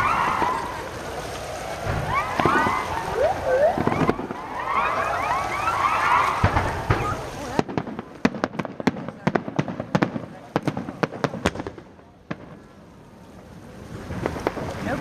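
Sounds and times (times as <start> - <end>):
firework bangs: 0.0 - 15.0
sharp crackling pops: 0.0 - 15.0
whistling fireworks: 0.0 - 15.0.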